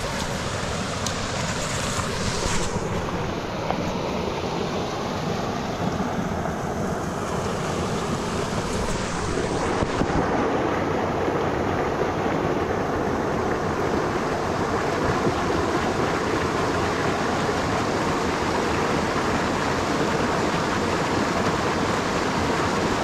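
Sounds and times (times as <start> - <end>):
brook water tumbling over rocks: 0.0 - 23.0.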